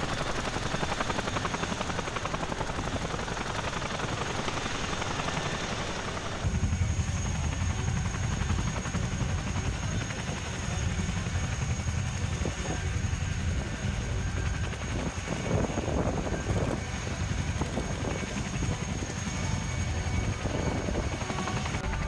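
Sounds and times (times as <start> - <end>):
helicopter rotor beat: 0.0 - 22.0
turbine whine: 0.0 - 22.0.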